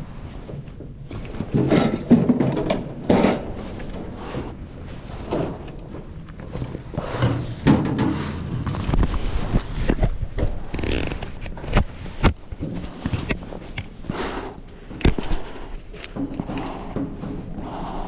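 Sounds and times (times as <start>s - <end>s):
rustling scrapes: 3.1s - 18.0s.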